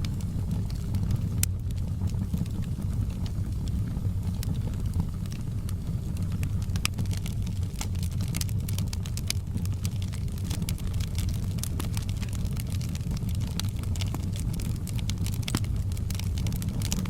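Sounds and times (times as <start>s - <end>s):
low rumble of fire: 0.0s - 17.0s
wood fire crackling and popping: 0.0s - 17.0s.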